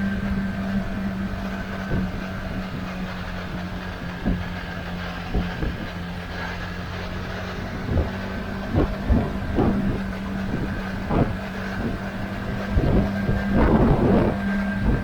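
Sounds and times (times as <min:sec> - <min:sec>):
motorcycle engine running: 0:00.0 - 0:15.0
rain: 0:00.0 - 0:15.0
road noise: 0:00.0 - 0:15.0
wind buffeting microphone: 0:00.0 - 0:15.0.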